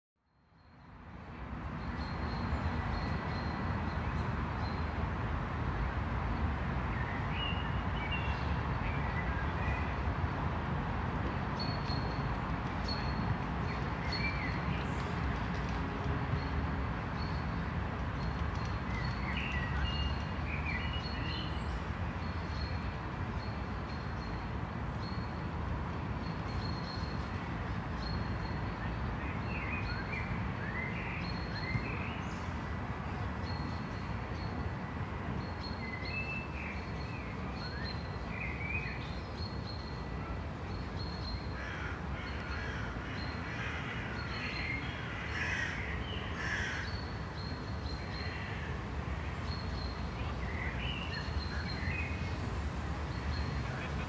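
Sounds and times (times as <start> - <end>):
distant city traffic rumble: 0.8 - 54.0.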